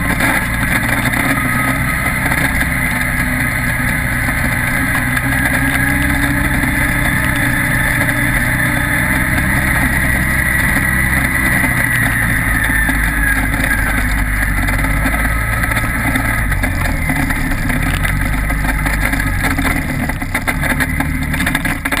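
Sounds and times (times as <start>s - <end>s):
knocks and rattles: 0.0s - 22.0s
utv engine running: 0.0s - 22.0s.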